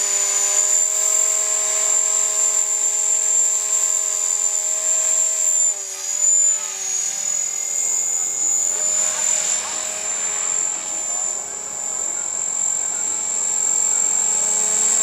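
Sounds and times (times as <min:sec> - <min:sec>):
model helicopter rotor whine: 0:00.0 - 0:15.0.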